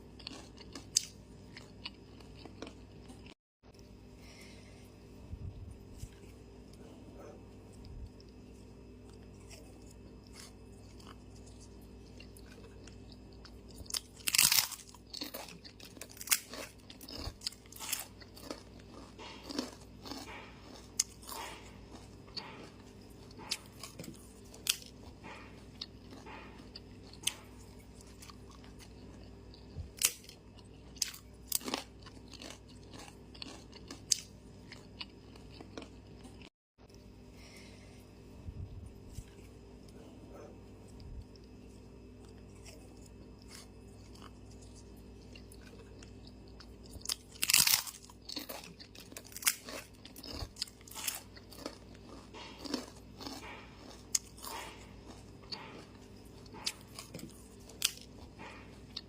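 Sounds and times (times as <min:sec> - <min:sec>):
person chewing and crunching food: 0:00.0 - 0:59.0
steady low hum: 0:00.0 - 0:59.0.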